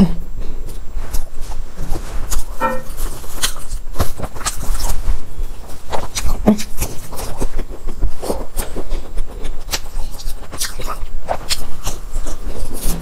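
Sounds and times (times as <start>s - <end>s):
chewing flaky pastries: 0.6s - 13.0s.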